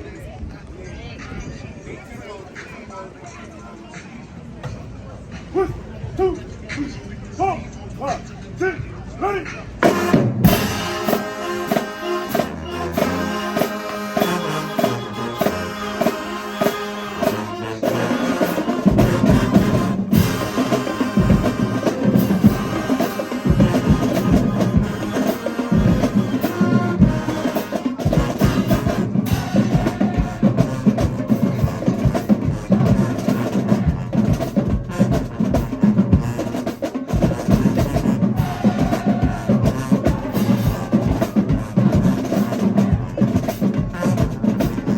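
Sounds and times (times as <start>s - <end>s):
bass drum and percussion beats: 4.0s - 44.9s
marching band playing: 5.4s - 44.9s.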